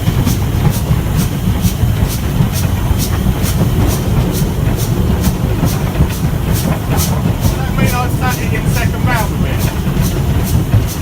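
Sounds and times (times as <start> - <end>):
steam locomotive chuffing: 0.0 - 11.0
steam locomotive rumble: 0.0 - 11.0.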